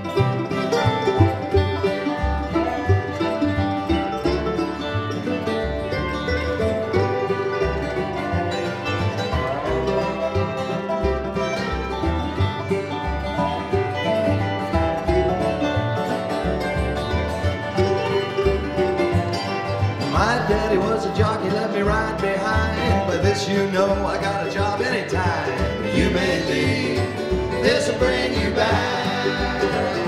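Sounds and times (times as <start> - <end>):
acoustic guitars: 0.0 - 30.0
fiddle: 0.0 - 30.0
mandolin: 0.0 - 30.0
washtub bass low notes: 0.0 - 30.0.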